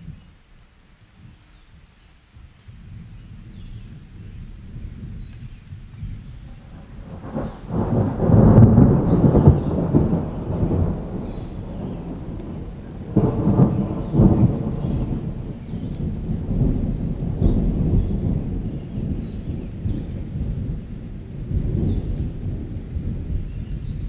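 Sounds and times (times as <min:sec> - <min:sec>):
steady rain: 0:00.0 - 0:24.0
thunder rolling: 0:02.8 - 0:24.0.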